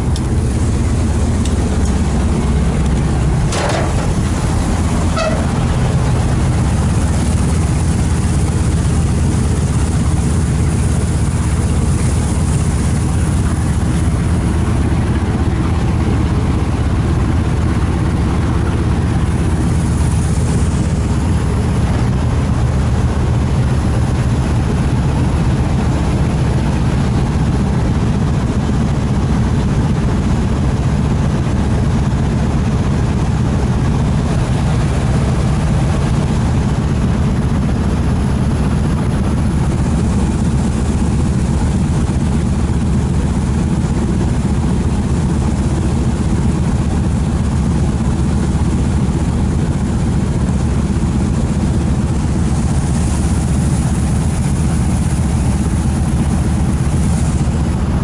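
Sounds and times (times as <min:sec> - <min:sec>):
boat diesel engine droning: 0:00.0 - 0:58.0
water rushing: 0:00.0 - 0:58.0.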